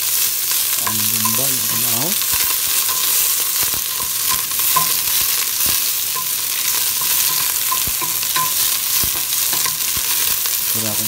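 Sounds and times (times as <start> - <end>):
onions sizzling in hot oil: 0.0 - 11.0
wooden spoon knocking on pot: 0.8 - 10.4.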